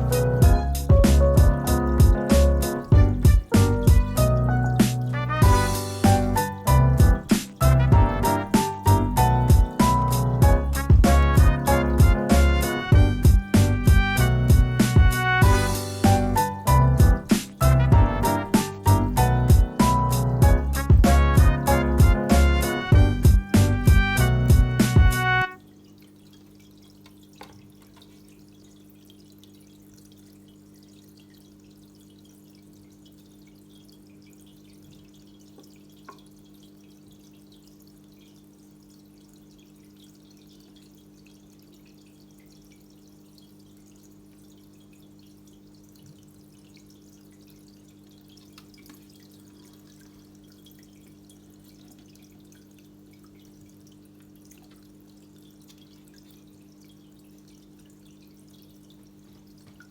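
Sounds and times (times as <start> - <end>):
aquarium equipment hum: 0.0 - 59.9
faint water drips: 0.0 - 59.9.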